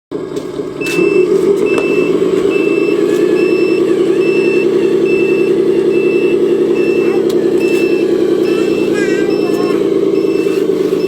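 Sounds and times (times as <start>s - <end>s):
truck engine running: 0.1s - 11.0s
reversing alarm beeping: 0.8s - 11.0s.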